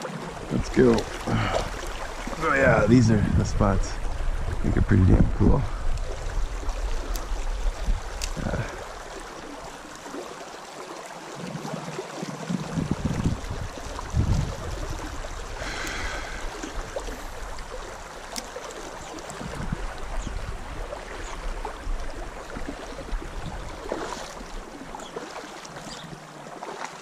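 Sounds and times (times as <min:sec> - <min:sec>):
stream rushing over gravel: 0:00.0 - 0:27.0.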